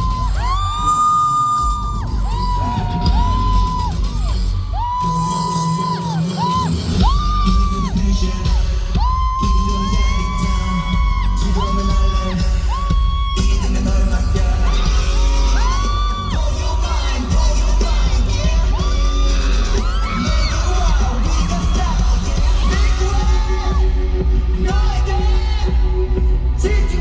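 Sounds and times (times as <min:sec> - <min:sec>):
backing track with heavy bass beat: 0:00.0 - 0:27.0
pop singing: 0:00.0 - 0:27.0.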